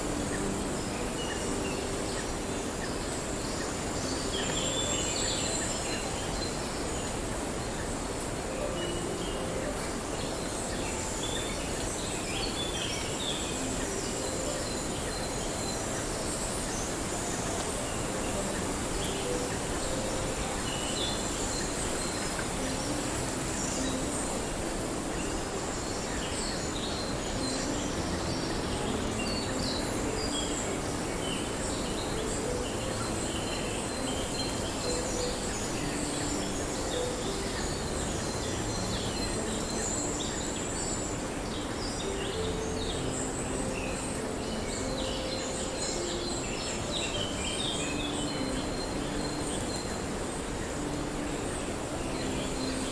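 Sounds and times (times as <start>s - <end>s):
background hiss: 0.0s - 52.9s
high insect drone: 0.0s - 52.9s.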